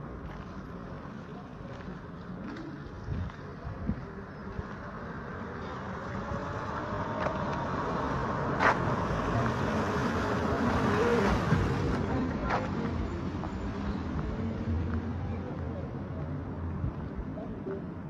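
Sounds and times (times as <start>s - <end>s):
motor vehicle running: 0.0s - 15.9s.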